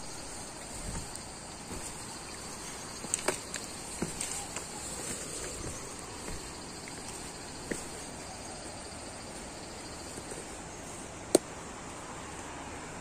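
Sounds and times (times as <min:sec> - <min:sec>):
insects chirring: 0:00.0 - 0:11.7
background hiss: 0:00.0 - 0:13.0.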